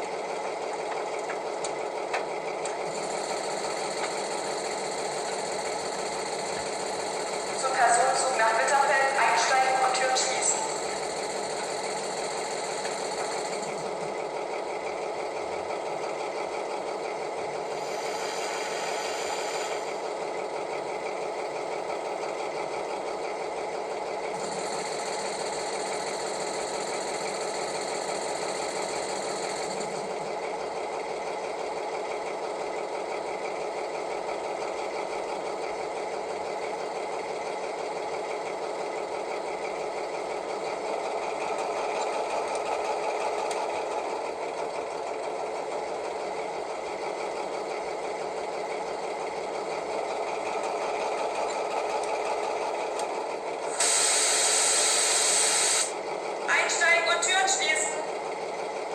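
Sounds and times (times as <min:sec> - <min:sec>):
model motor and running gear: 0:00.0 - 0:08.3, 0:09.8 - 0:56.5
model diesel engine sound: 0:00.0 - 0:58.9.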